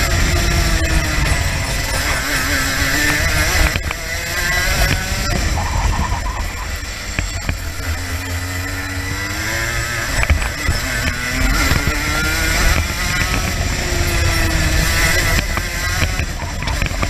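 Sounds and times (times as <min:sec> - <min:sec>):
kart engine revving: 0:00.0 - 0:17.0
wind rumble on microphone: 0:00.0 - 0:17.0.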